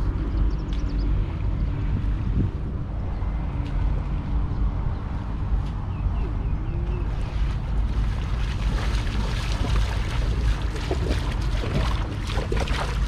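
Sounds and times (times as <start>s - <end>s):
wading through shallow water: 0.0s - 13.0s
wind on microphone: 0.0s - 13.0s.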